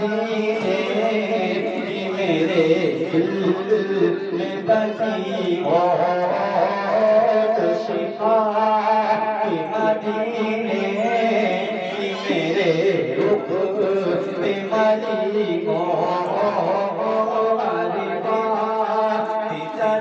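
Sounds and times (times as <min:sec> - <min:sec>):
man chanting into microphone: 0:00.0 - 0:20.0.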